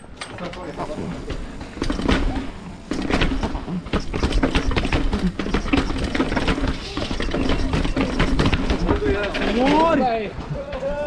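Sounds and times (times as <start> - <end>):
bike clattering down concrete stairs: 0.0 - 11.0.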